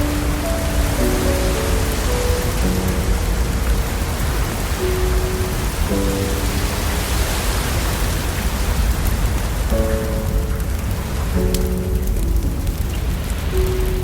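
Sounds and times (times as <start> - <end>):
rain hiss: 0.0 - 14.0
soft piano chords: 0.0 - 14.0.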